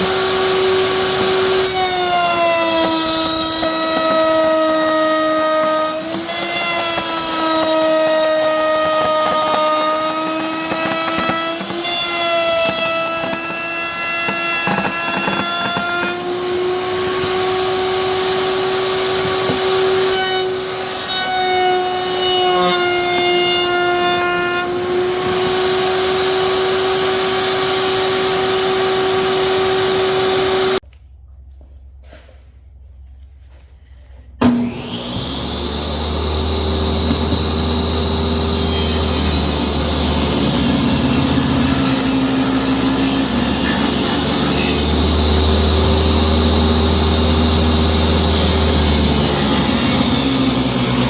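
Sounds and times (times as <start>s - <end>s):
power tool cutting wood: 0.0s - 30.8s, 34.4s - 51.0s.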